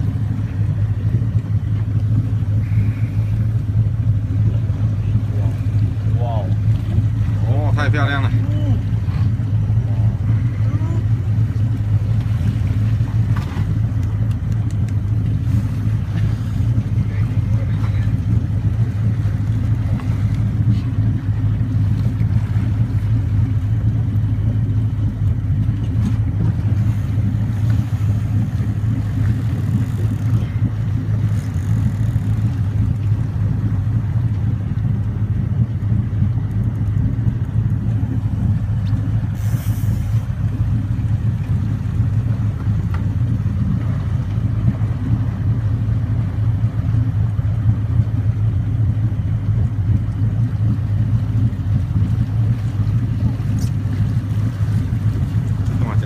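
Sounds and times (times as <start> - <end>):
boat motor humming: 0.0 - 56.0.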